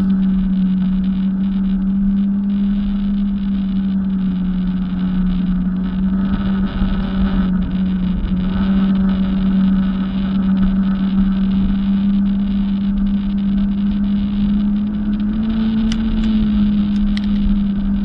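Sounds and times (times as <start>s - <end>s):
jet ski engine running: 0.0s - 18.0s.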